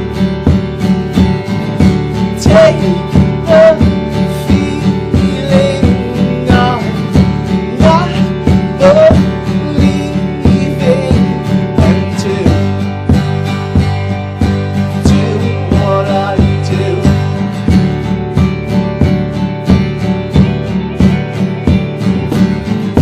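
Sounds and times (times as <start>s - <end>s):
live band playing: 0.0s - 23.0s
strummed acoustic guitar: 0.0s - 23.0s.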